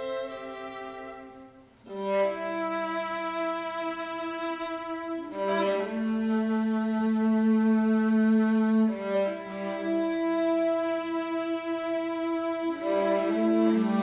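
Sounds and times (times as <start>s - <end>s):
string quartet bowing held chords: 0.0s - 14.0s.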